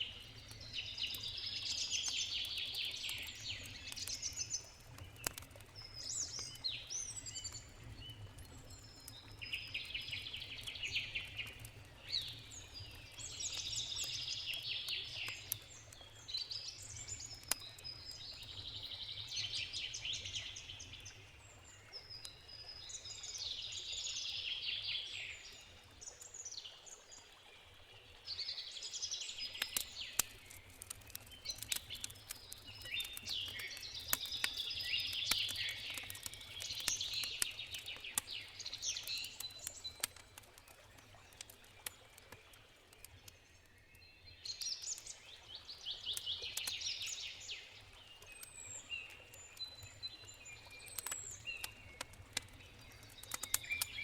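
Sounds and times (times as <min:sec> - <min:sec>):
wood campfire crackling and popping: 0:00.0 - 0:24.1, 0:28.8 - 0:54.0
songbirds twittering: 0:00.0 - 0:54.0.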